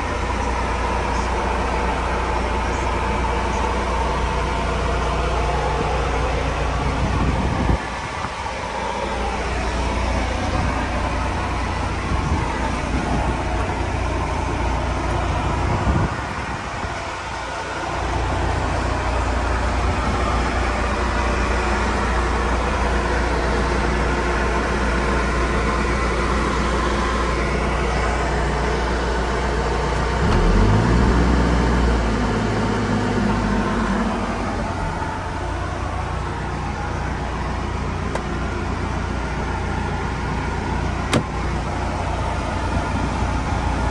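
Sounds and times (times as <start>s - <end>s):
diesel engine running and revving: 0.0s - 43.9s.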